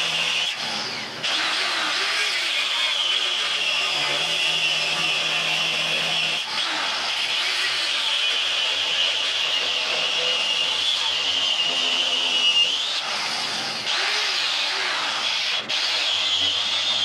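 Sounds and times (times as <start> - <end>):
electric grinder grinding steel: 0.0 - 17.0.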